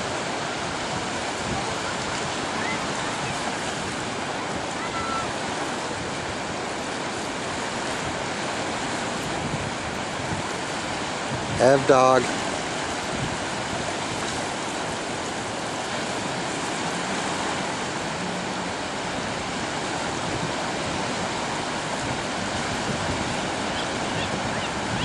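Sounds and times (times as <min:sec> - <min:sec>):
small waves breaking: 0:00.0 - 0:25.0.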